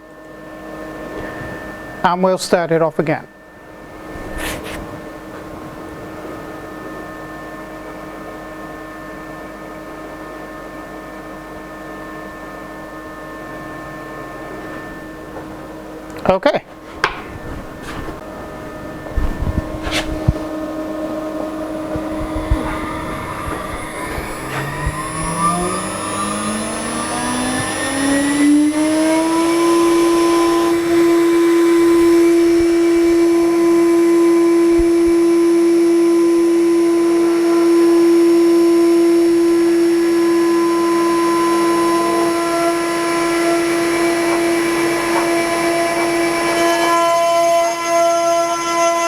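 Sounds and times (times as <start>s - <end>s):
router spindle whine: 0.0s - 16.2s, 17.0s - 49.0s.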